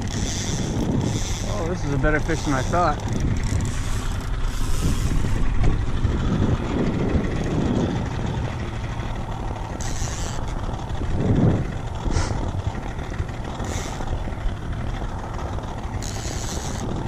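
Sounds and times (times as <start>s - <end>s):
outboard motor running: 0.0s - 17.0s
wind on microphone: 0.0s - 17.0s.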